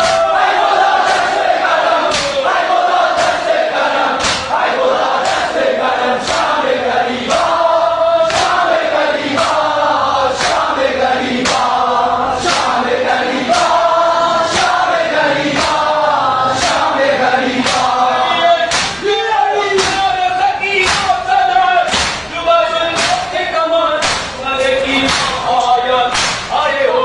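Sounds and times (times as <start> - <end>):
men chanting in unison: 0.0 - 27.0
rhythmic chest slaps: 0.0 - 27.0.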